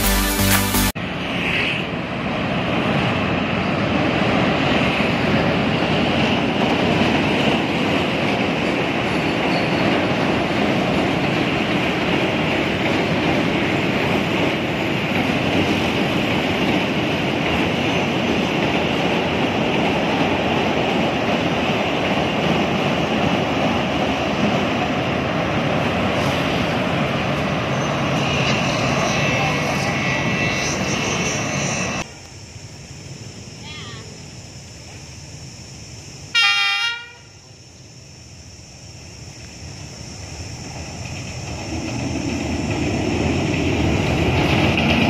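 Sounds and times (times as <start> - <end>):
train wheels on rails: 0.0 - 45.0.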